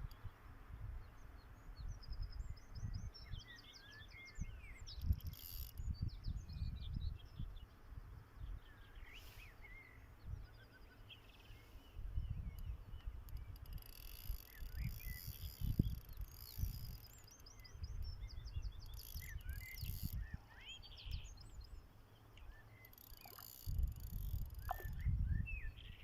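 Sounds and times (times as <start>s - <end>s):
songbirds chirping and trilling: 0.0s - 26.0s.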